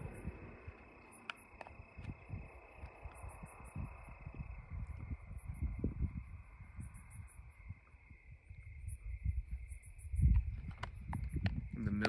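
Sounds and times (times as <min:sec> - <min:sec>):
crickets chirping: 0:00.0 - 0:12.0
soft low rumbles: 0:00.0 - 0:12.0.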